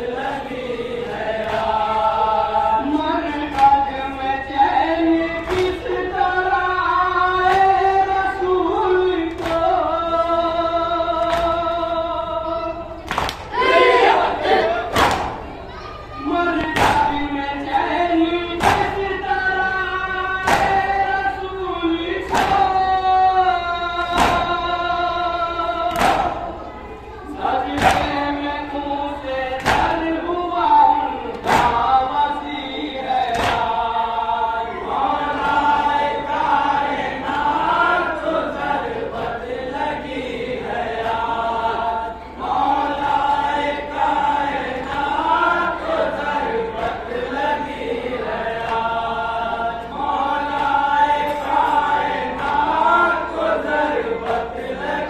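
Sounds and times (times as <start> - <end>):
men chanting in unison: 0.0 - 15.4, 16.2 - 26.7, 27.3 - 55.0.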